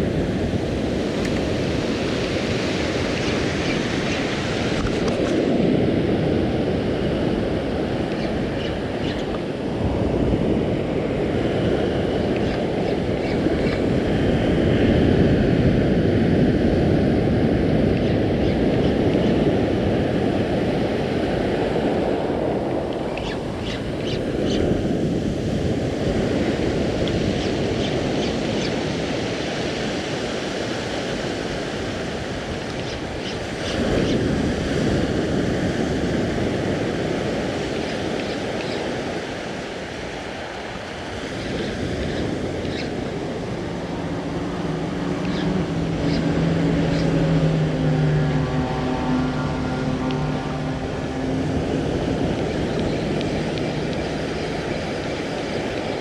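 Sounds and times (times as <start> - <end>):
ocean surf breaking: 0.0 - 17.9, 19.1 - 56.0
wind buffeting microphone: 0.0 - 56.0.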